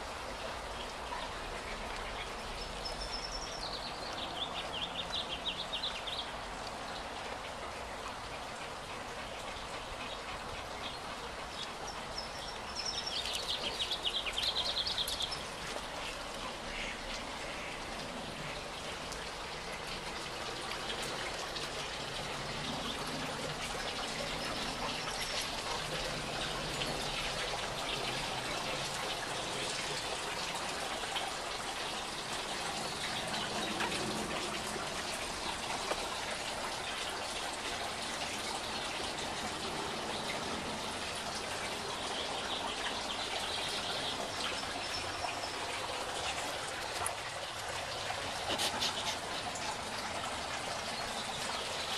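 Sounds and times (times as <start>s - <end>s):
water trickling and splashing: 0.0s - 51.9s.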